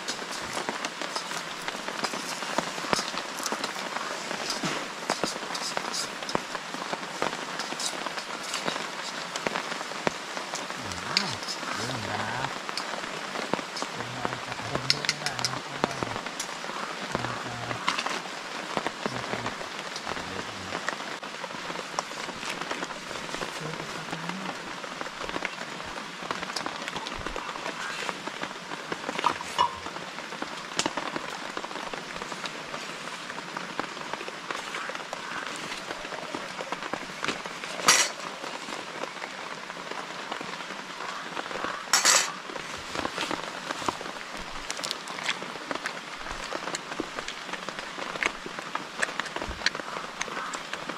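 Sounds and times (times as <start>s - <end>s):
drips and ticks: 0.0s - 50.9s
heavy rain falling: 0.0s - 50.9s.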